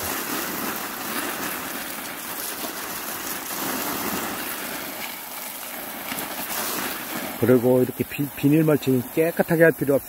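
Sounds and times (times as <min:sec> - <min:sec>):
hose water spraying on plastic: 0:00.0 - 0:10.0.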